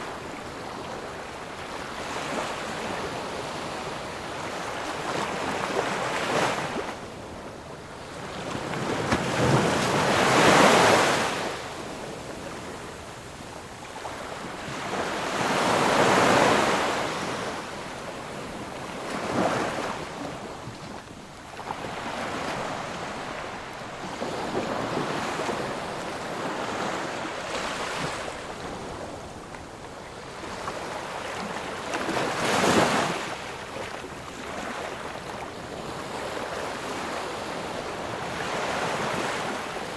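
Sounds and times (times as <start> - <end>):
ocean waves breaking: 0.0 - 13.1, 13.9 - 39.9.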